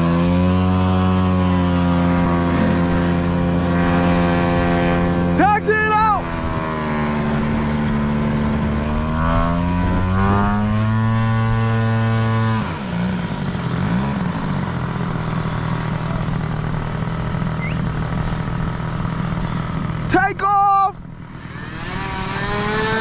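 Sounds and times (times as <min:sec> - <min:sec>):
model airplane engine revving: 0:00.0 - 0:20.1, 0:21.0 - 0:23.0.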